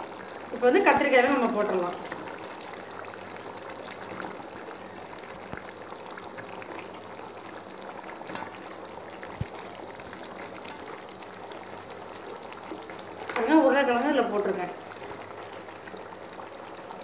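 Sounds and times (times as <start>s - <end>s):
gravy simmering and bubbling: 0.0s - 17.0s.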